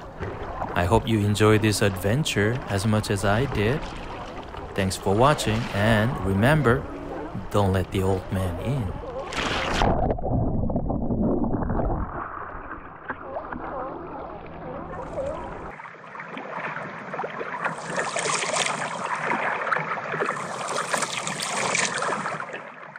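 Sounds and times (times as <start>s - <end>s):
water rushing and bubbling: 0.0s - 22.9s.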